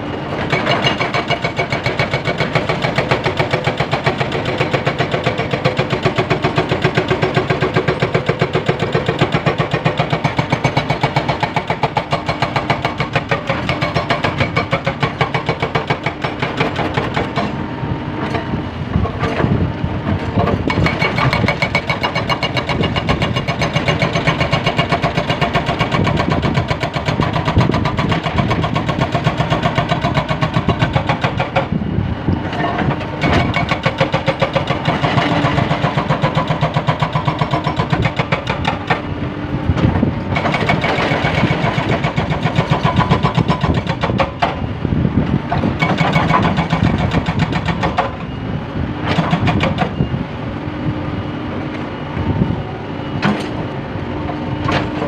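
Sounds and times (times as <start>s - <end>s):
diesel engine running: 0.0s - 55.0s
hydraulic rock breaker hammering: 0.3s - 17.6s, 18.2s - 44.7s, 45.5s - 48.4s, 49.0s - 50.1s.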